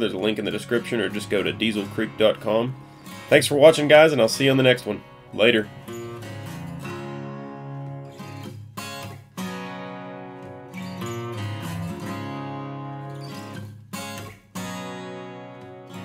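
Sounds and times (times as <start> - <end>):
strummed acoustic guitar music: 0.0 - 16.0.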